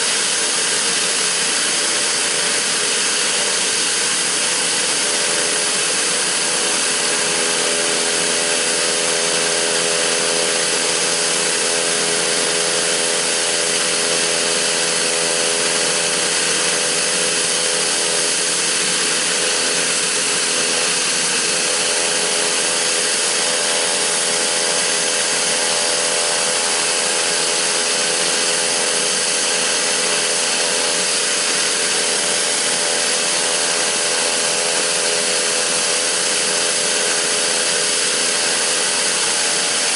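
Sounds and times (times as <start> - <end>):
turboprop engine whine: 0.0 - 39.9.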